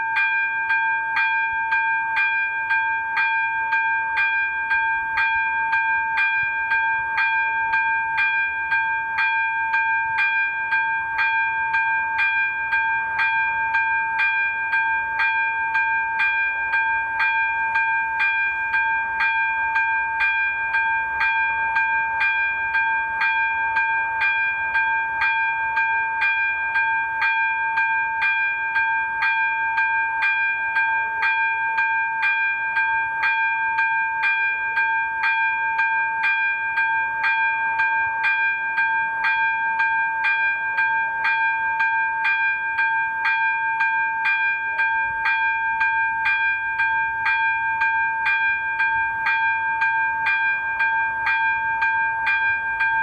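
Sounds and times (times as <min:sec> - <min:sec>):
level crossing bell ringing: 0:00.0 - 0:53.0.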